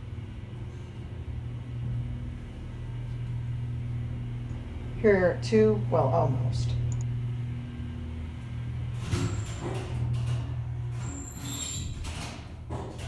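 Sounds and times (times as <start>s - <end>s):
freight elevator humming: 0.0s - 13.0s
elevator machinery clunks: 1.8s - 13.0s.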